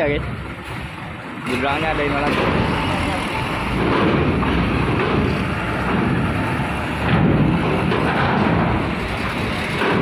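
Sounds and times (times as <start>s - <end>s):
truck diesel engine under load: 0.0s - 10.0s.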